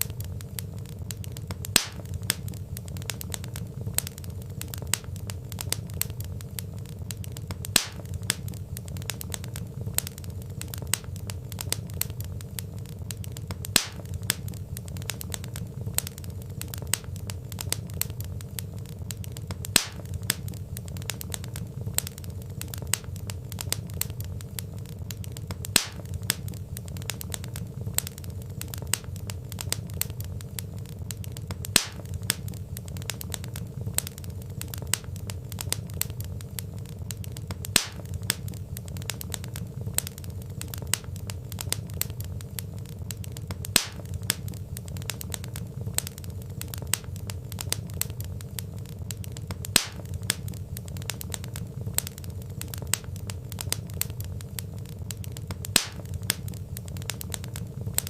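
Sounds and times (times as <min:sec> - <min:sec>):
low rumble of flames: 0:00.0 - 0:58.0
sharp pops from the fire: 0:00.0 - 0:58.0
wood fire crackling: 0:00.0 - 0:58.0.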